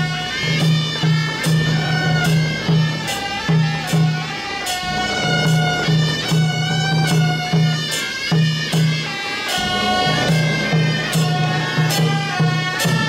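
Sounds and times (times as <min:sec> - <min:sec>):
drum beats: 0:00.0 - 0:13.0
hand cymbals crashing: 0:00.0 - 0:13.0
suona melody: 0:00.0 - 0:13.0.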